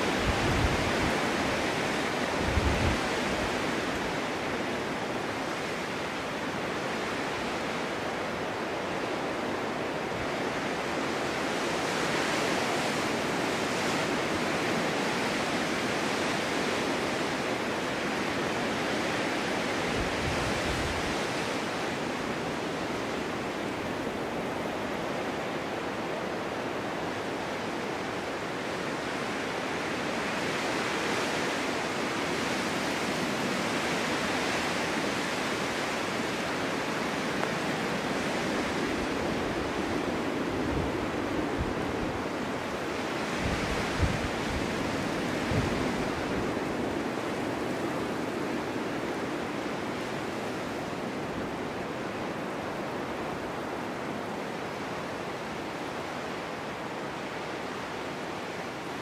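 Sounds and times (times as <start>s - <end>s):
storm wind blowing: 0.0s - 59.0s.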